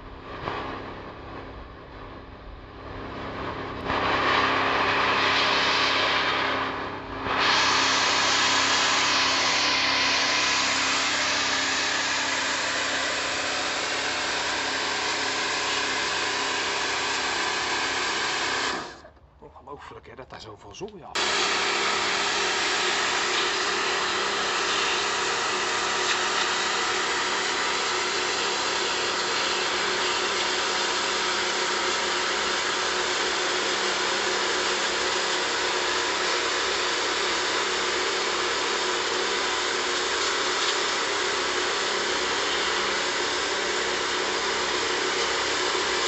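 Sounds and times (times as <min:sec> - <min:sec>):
pump motor humming: 0:03.3 - 0:19.1, 0:21.2 - 0:46.0
pressure washer jet hissing: 0:04.0 - 0:06.7, 0:07.3 - 0:19.0, 0:21.2 - 0:46.0.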